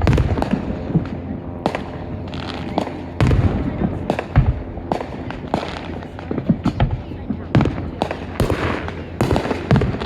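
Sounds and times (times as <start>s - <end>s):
fireworks bangs: 0.0s - 10.0s
fireworks crackling: 1.6s - 10.0s.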